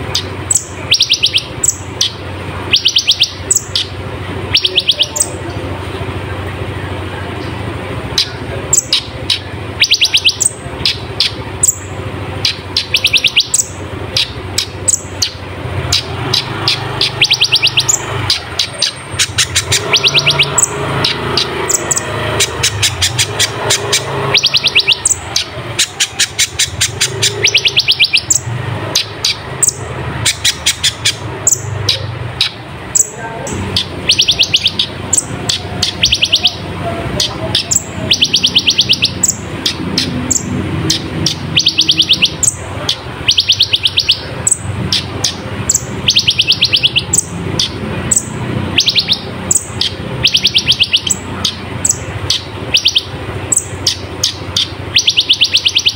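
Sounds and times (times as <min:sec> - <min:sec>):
bird singing high trills: 0:00.0 - 0:05.6, 0:07.3 - 0:55.9
steady low hum: 0:00.0 - 0:55.0.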